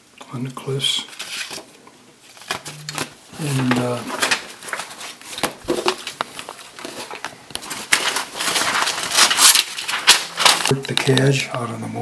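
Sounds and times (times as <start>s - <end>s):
paper and plastic rustling: 0.6s - 11.8s.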